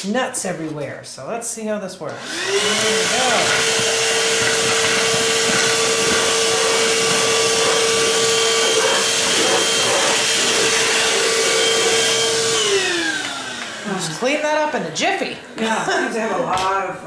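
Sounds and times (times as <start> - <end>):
handheld vacuum running: 2.1 - 16.5.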